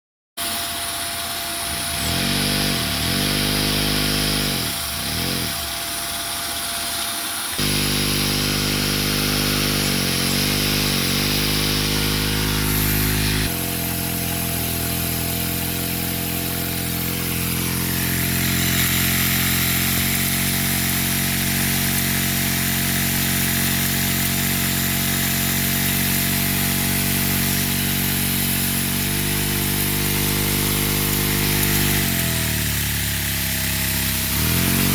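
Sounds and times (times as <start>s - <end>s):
motor drone: 0.4s - 34.9s.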